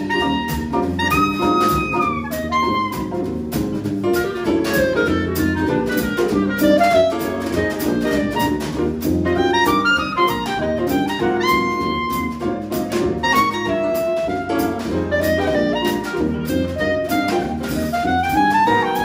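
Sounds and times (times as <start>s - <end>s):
reed instrument melody: 0.0s - 19.0s
swing jazz band playing: 0.0s - 19.0s.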